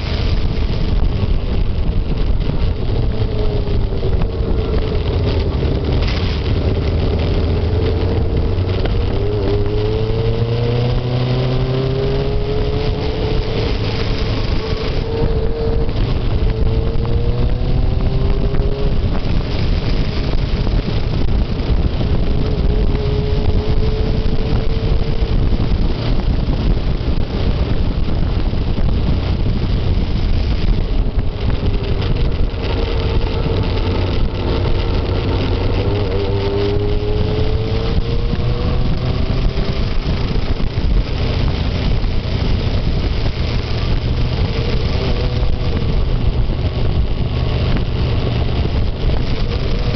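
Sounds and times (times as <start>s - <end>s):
loud rushing noise: 0.0s - 49.9s
motorcycle engine running: 0.0s - 49.9s.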